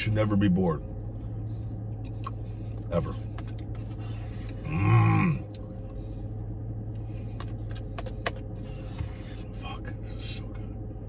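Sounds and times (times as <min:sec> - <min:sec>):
low hum in car cabin: 0:00.0 - 0:11.0.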